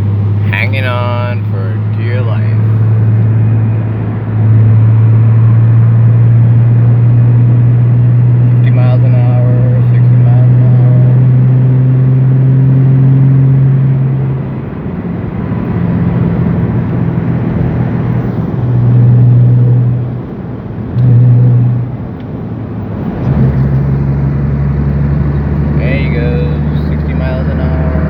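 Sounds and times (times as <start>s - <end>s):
deeper rumble: 0.0s - 28.0s
road and wind noise drone: 0.0s - 28.0s.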